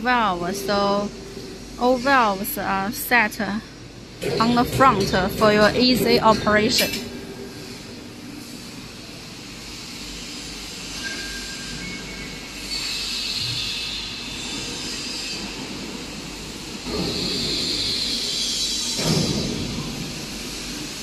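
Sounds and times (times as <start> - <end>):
industrial hall rushing noise: 0.0 - 21.0.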